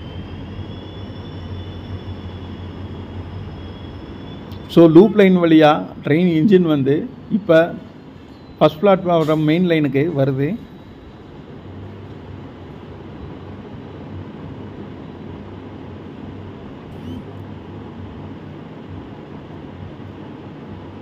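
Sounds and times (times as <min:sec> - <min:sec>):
distant locomotive engine rumble: 0:00.0 - 0:21.0.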